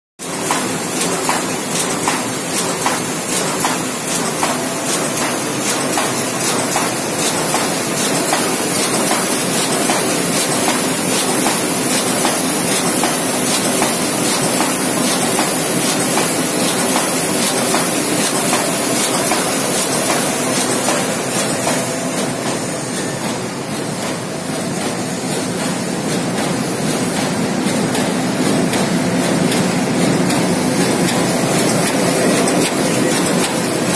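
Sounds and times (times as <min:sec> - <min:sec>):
machine clatter with rapid ticking: 0:00.2 - 0:33.9.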